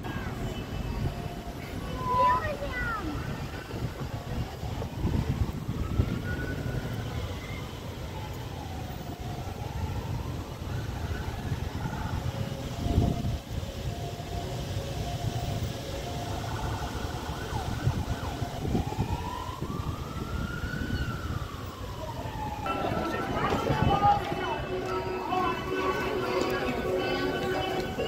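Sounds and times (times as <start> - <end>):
road traffic rumble: 0.0 - 28.0
siren wailing: 0.8 - 28.0.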